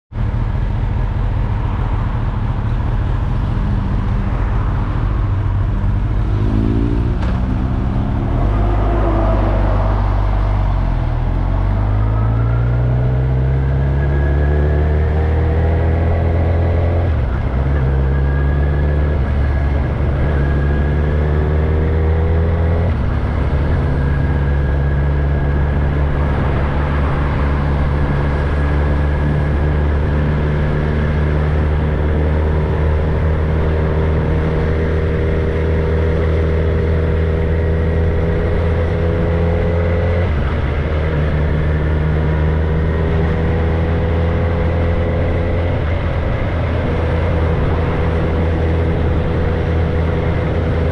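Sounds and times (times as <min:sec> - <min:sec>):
gear shifts dropping pitch: 0:02.3 - 0:50.9
motorcycle engine accelerating: 0:02.6 - 0:50.9.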